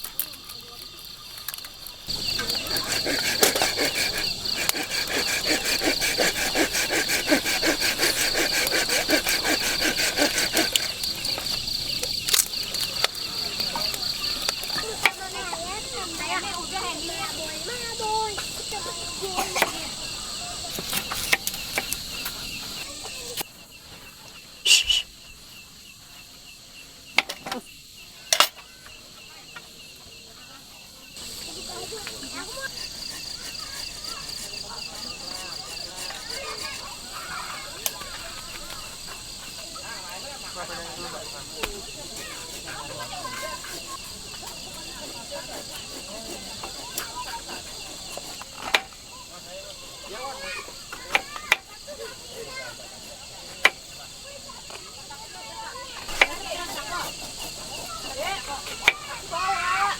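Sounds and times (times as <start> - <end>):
crickets chirping: 0.0 - 59.9
insects trilling: 0.0 - 59.9
rhythmic pulsing insect call: 0.0 - 59.9.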